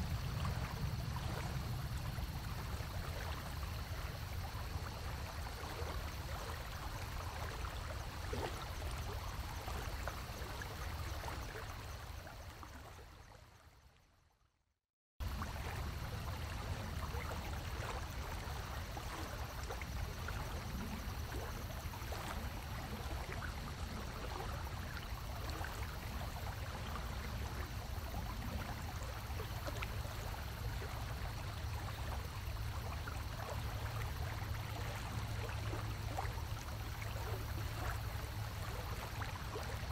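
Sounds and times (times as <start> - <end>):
aquarium water rushing and gurgling: 0.0 - 12.4, 15.2 - 39.9.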